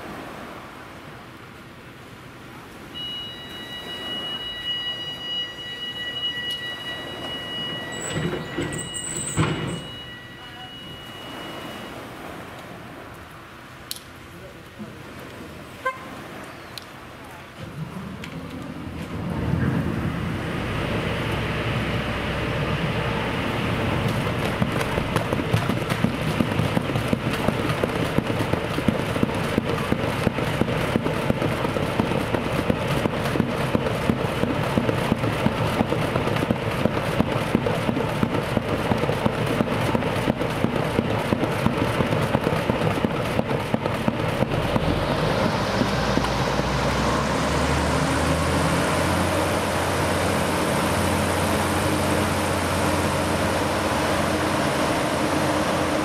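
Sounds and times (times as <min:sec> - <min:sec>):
hovercraft engines pulsing: 0:00.0 - 0:56.0.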